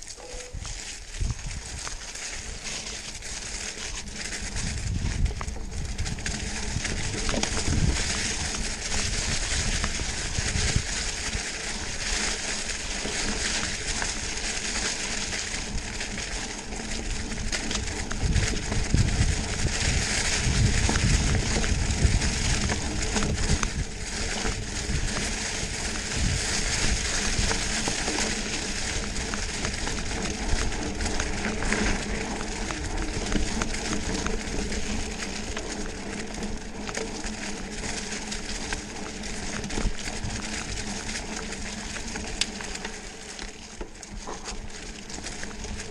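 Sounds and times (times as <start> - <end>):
bike tyres rolling over dry leaves: 0.0 - 45.9
wind rumble on microphone: 0.0 - 45.9.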